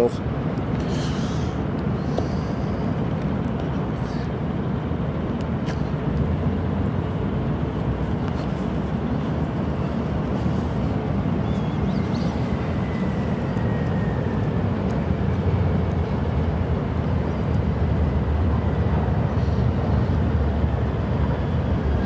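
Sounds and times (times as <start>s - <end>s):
distant city traffic rumble: 0.0s - 22.0s.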